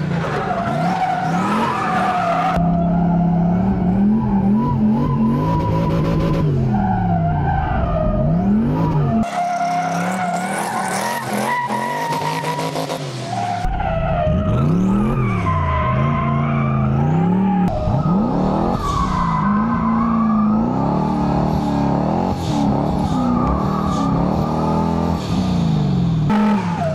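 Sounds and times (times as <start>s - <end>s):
tires squealing: 0.0s - 25.2s, 26.3s - 26.9s
car engine revving: 0.0s - 26.9s.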